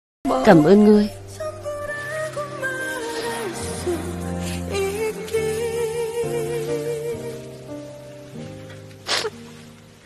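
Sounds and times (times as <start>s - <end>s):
slow background music: 0.2s - 10.0s.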